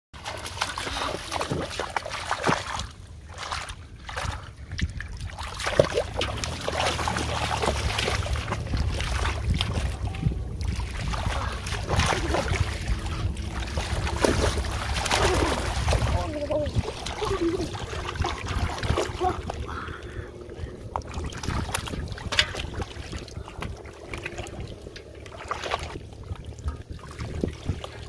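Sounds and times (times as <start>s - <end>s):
shallow water sloshing and splashing: 0.2s - 28.0s.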